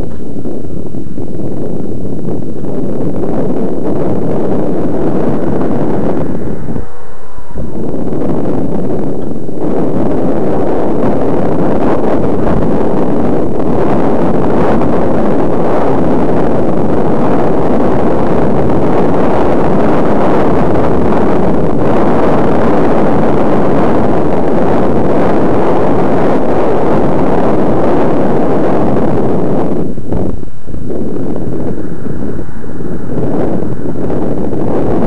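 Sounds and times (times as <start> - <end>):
wind roaring over microphone: 0.0 - 35.0.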